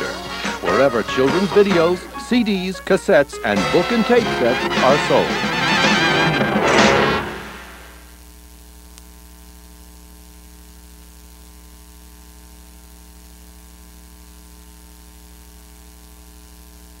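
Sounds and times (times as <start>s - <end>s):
electrical mains hum: 0.0s - 17.0s
tape hiss: 0.0s - 17.0s.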